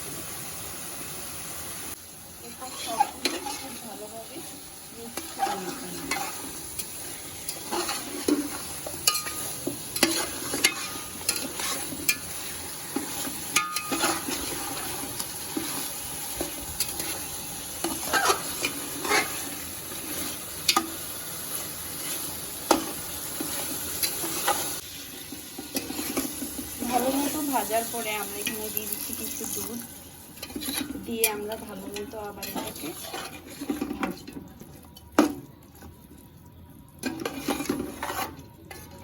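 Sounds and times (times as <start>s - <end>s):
chicken frying in oil: 0.0s - 39.0s
spatula scraping pot: 2.5s - 29.0s, 30.4s - 34.4s, 37.0s - 39.0s.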